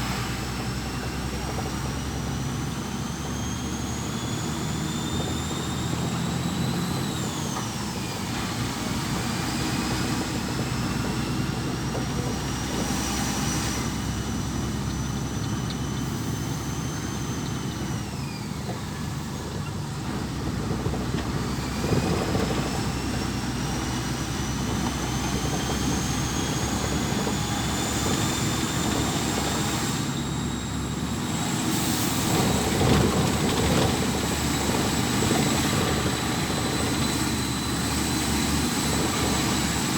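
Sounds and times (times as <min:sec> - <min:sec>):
lorry engine rumbling: 0:00.0 - 0:39.9.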